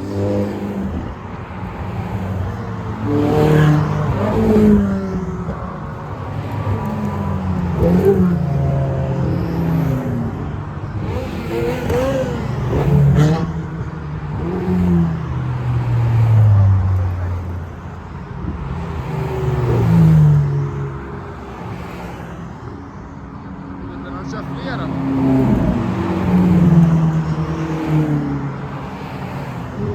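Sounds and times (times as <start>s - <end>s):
sports cars driving past: 0.0s - 29.9s.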